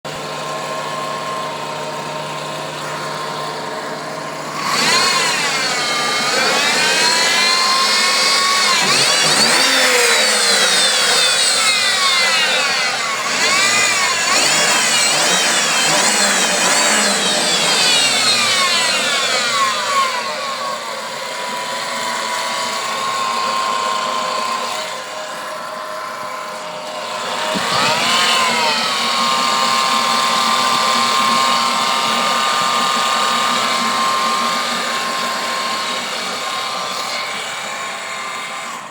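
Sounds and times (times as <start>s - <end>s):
car engine idling and revving: 0.1s - 38.9s.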